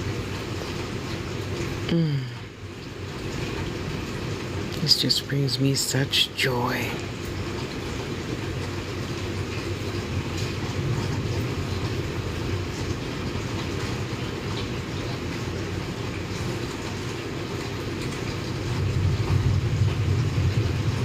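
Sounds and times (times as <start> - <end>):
continuous low rumble: 0.0 - 21.0
steady rain falling: 0.0 - 21.0
faint drips: 0.4 - 18.8.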